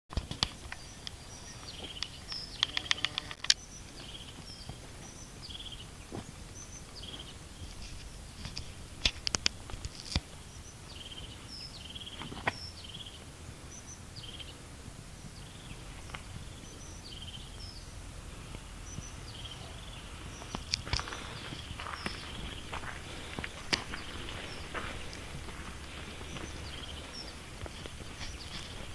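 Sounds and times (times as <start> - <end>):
sharp bird clicks: 0.1 - 5.9, 6.5 - 14.5, 15.3 - 17.9, 18.5 - 22.8, 23.5 - 28.9
robin calling: 0.3 - 28.9.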